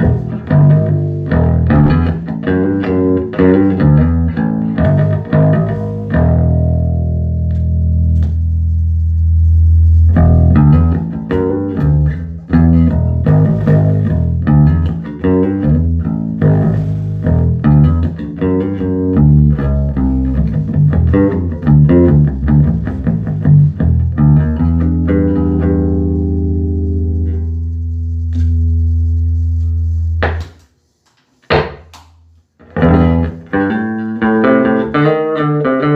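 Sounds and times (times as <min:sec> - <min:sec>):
electric bass guitar notes: 0:00.0 - 0:30.6, 0:32.6 - 0:35.9.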